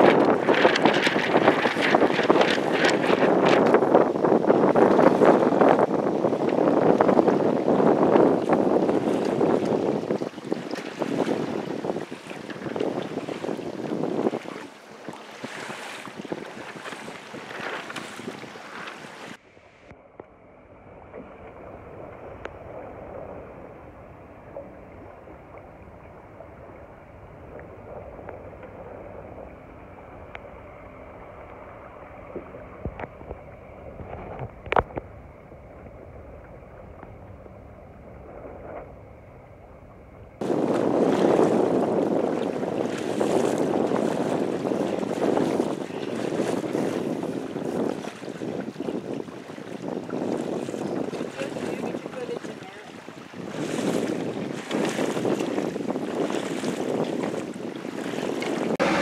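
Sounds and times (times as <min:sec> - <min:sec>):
wind buffeting microphone: 0:00.0 - 0:19.4, 0:20.7 - 0:59.0
water rushing along hull: 0:00.0 - 0:59.0.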